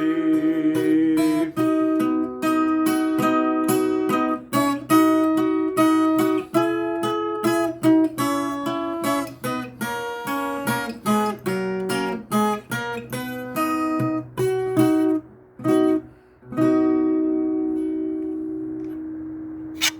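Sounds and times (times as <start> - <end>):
guitar picked and strummed chords: 0.0 - 19.9.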